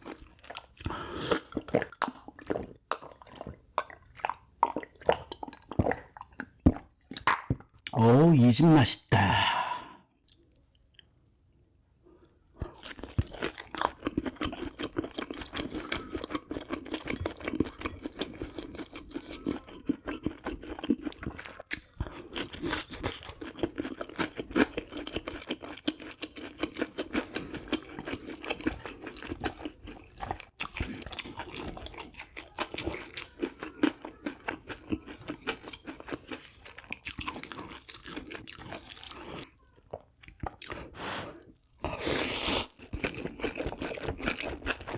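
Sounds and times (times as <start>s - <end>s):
close chewing sounds: 0.0s - 8.0s, 12.6s - 44.9s.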